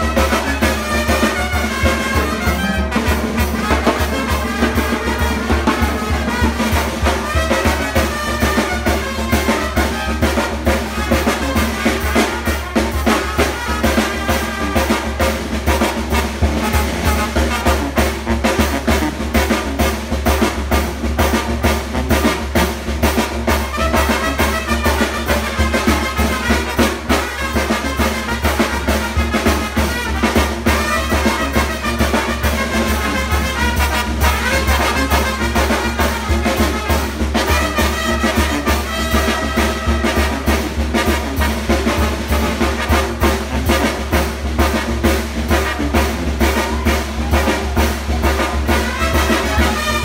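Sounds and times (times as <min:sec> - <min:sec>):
bass drum and snare beat: 0:00.0 - 0:50.0
brass band playing: 0:00.0 - 0:50.0.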